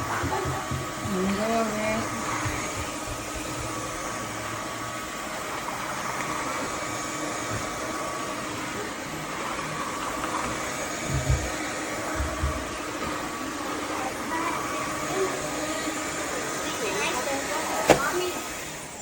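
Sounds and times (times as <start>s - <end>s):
vacuum mop whirring: 0.0s - 19.0s.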